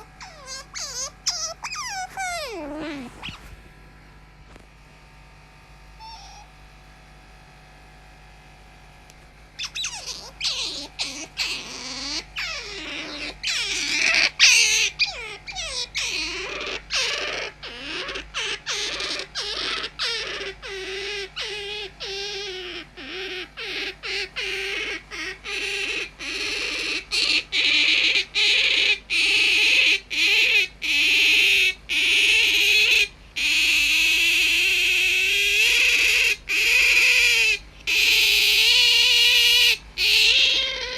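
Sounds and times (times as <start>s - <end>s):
otter squealing: 0.0s - 3.6s, 6.0s - 6.5s, 9.6s - 40.9s.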